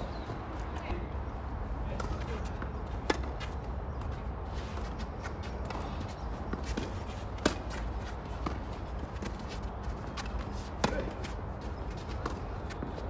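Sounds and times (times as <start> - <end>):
tennis balls bouncing on court: 1.9 - 13.0
tennis balls struck by rackets: 1.9 - 13.0.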